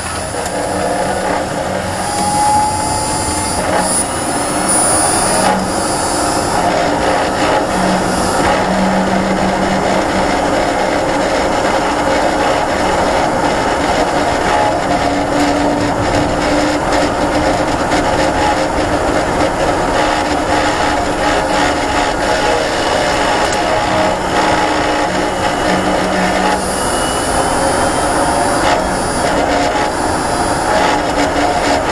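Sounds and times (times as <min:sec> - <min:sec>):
car driving noise: 0:00.0 - 0:31.9.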